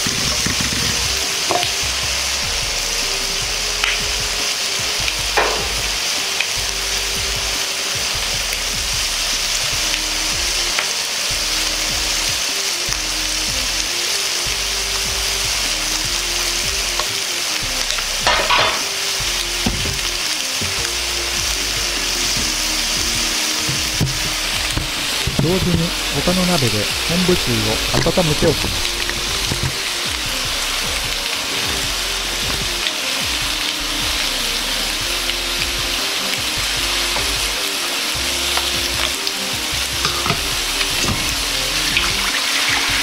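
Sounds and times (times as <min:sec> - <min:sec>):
chicken sizzling in a frying pan: 0:00.0 - 0:43.0.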